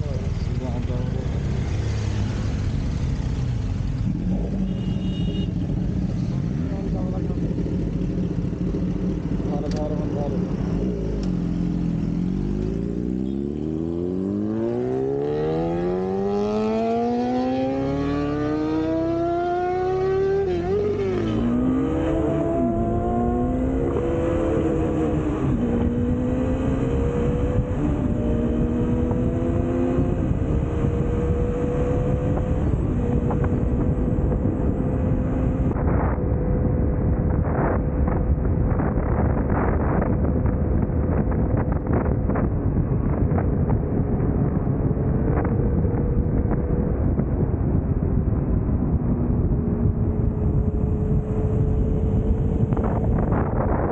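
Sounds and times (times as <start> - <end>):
motorcycle engine accelerating: 0.0 - 53.9
wind buffeting microphone: 5.6 - 53.9.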